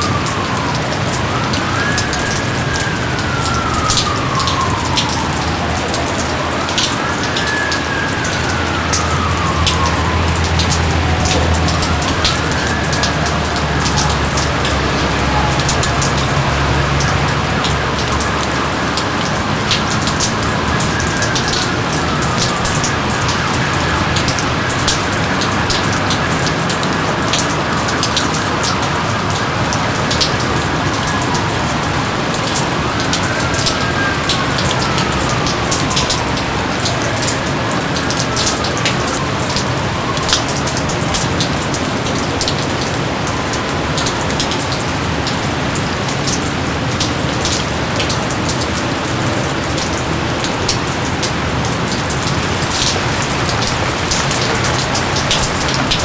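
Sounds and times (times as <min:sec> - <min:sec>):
close raindrops splatting: 0:00.0 - 0:56.0.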